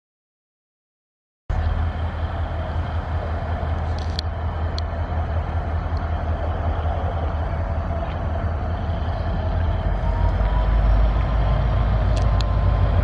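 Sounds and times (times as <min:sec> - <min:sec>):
diesel locomotive engine rumble: 0:01.5 - 0:13.0.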